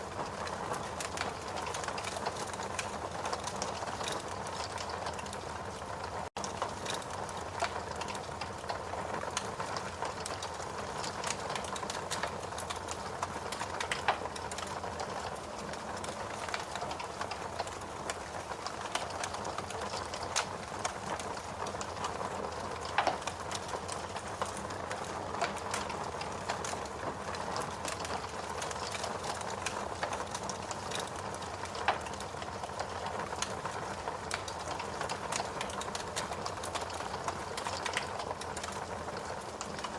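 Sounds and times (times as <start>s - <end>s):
burning wood popping: 0.0s - 39.9s
steady rain: 0.0s - 39.9s
wood fire crackling: 0.0s - 39.9s.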